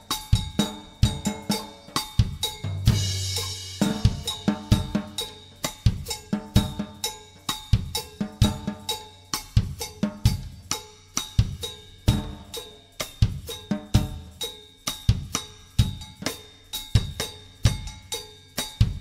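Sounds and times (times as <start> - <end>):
drum kit playing a steady beat: 0.0 - 19.0.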